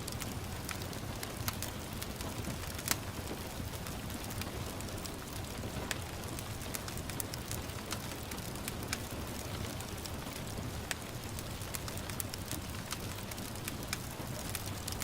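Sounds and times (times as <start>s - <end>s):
gentle rain hissing: 0.0s - 15.0s
wood fire crackling: 0.0s - 15.0s.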